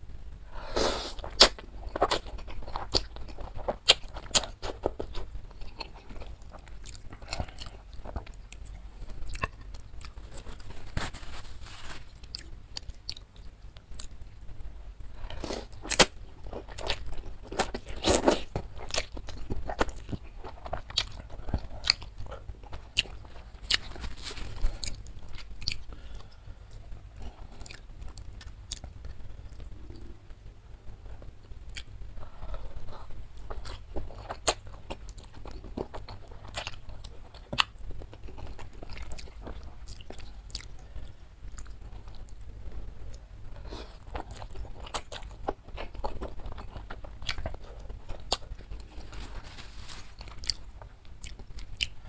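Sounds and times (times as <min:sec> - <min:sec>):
chewing: 0:01.1 - 0:14.2, 0:15.2 - 0:30.2, 0:31.2 - 0:42.4, 0:43.1 - 0:52.0.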